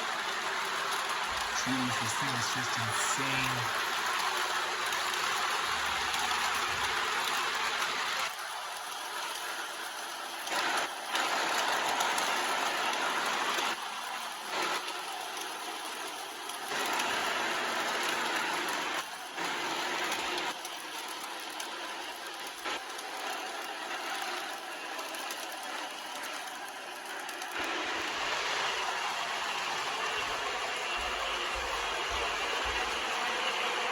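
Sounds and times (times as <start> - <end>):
model locomotive running on track: 0.0 - 33.9.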